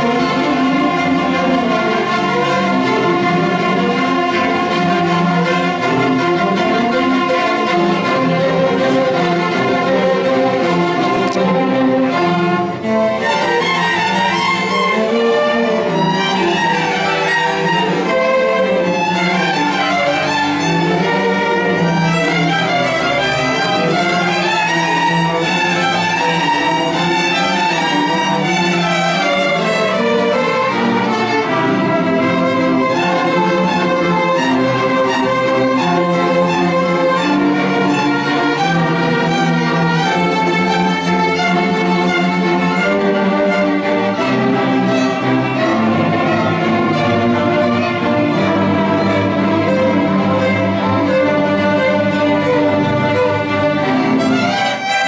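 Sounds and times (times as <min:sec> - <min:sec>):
cellos: 0:00.0 - 0:55.0
double bass bowing: 0:00.0 - 0:55.0
violins: 0:00.0 - 0:55.0.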